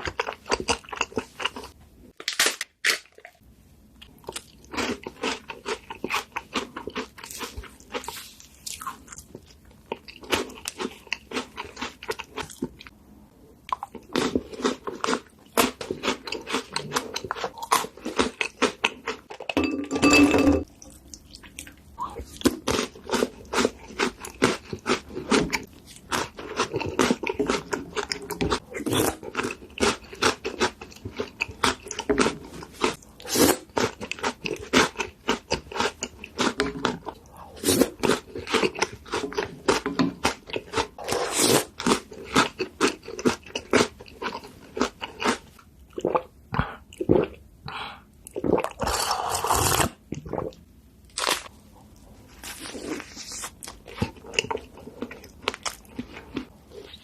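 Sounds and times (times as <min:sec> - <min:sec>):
food crunching being chewed: 0:00.0 - 0:03.4, 0:04.0 - 0:12.9, 0:13.6 - 0:19.6, 0:20.6 - 0:46.3, 0:48.3 - 0:57.0.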